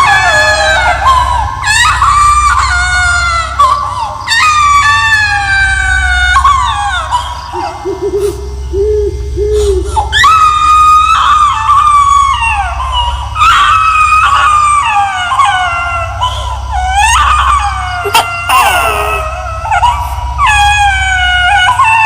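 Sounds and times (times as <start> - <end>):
ghostly baby wailing: 0.0 - 22.0
steady low drone: 0.0 - 22.0.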